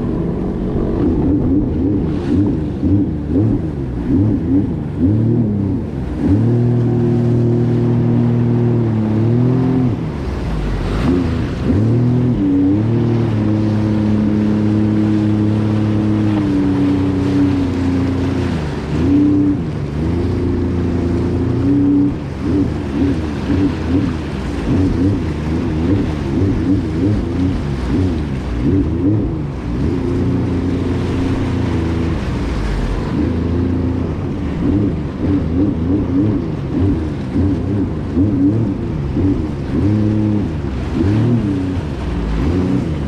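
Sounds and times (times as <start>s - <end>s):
jet ski engine revving: 0.0s - 43.0s
water splashing: 0.0s - 43.0s.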